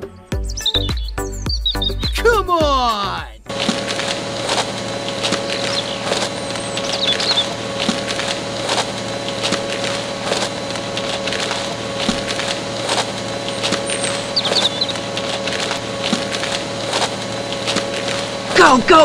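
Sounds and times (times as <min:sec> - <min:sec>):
small electric motor humming: 0:03.5 - 0:19.0.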